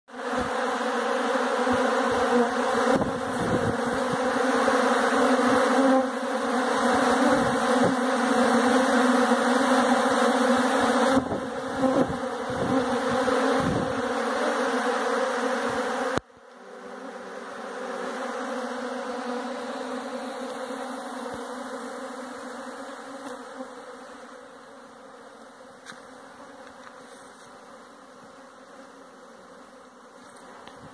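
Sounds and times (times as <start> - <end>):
bees buzzing: 0.1 - 30.9.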